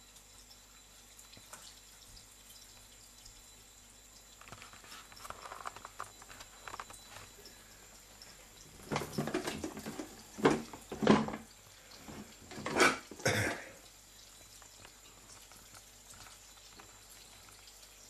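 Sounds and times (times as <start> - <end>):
tap water trickling into bowl: 0.0 - 18.0.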